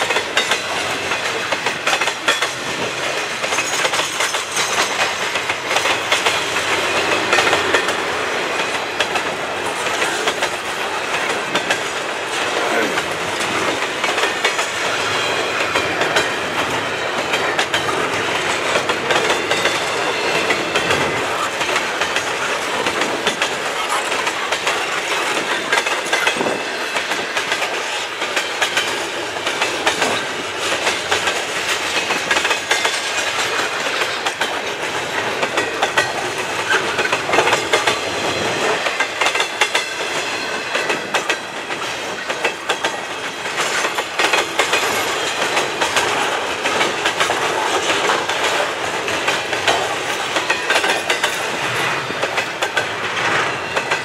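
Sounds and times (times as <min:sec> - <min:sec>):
freight train rolling past: 0:00.0 - 0:54.0
wheels clattering over rail joints: 0:00.0 - 0:54.0.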